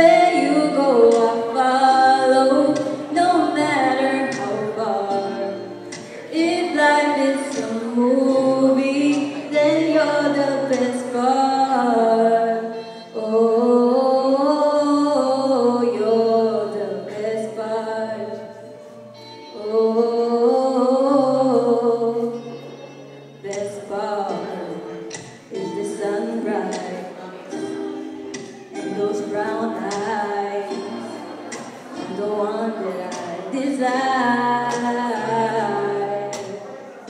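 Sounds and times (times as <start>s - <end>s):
woman singing into microphone: 0.0s - 22.7s, 23.3s - 37.0s.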